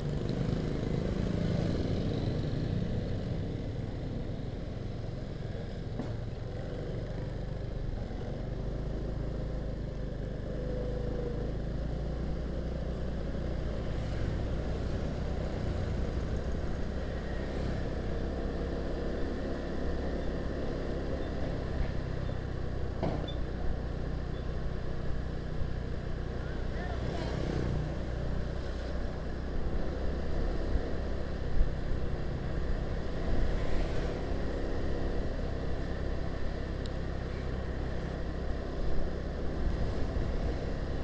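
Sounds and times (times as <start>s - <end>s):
motor scooter engine hum: 0.0s - 41.0s
road and wind rumble: 0.0s - 41.0s.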